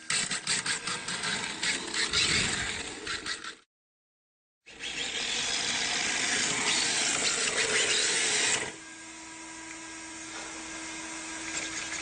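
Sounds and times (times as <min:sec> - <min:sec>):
small electric motor whirring: 0:00.0 - 0:03.6, 0:04.7 - 0:12.0.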